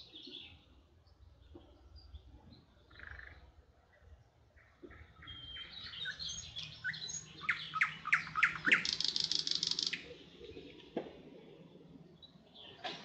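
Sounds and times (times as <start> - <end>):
songbird chirping and trilling: 0.0 - 10.9, 11.6 - 12.9.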